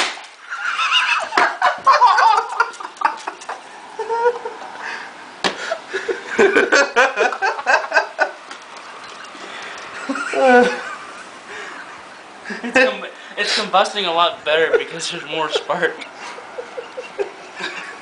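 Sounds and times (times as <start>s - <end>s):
excited laughter: 0.4s - 8.4s, 9.0s - 13.0s, 14.5s - 18.0s.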